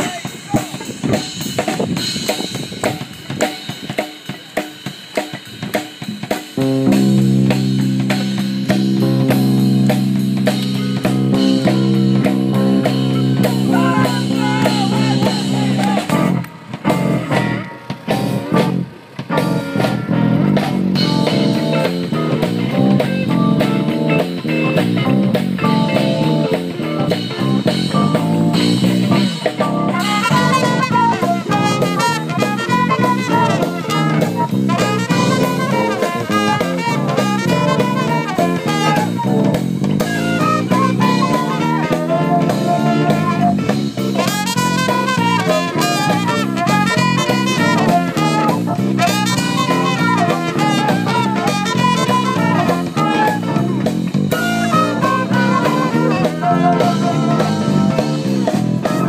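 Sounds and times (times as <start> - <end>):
drum kit hits: 0.0 - 59.0
electric guitar lines: 0.0 - 59.0
live jazz band: 0.0 - 59.0.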